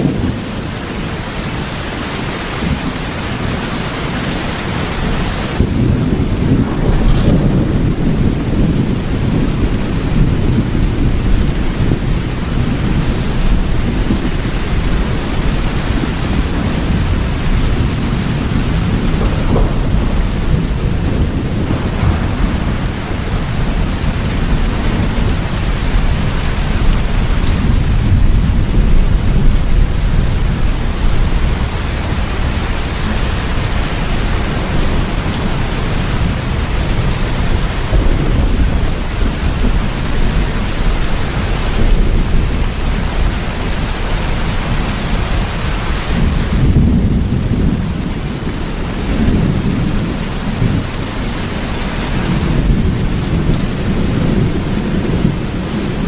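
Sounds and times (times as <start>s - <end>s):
heavy rain: 0.0s - 56.0s
low rumble of thunder: 0.0s - 56.0s.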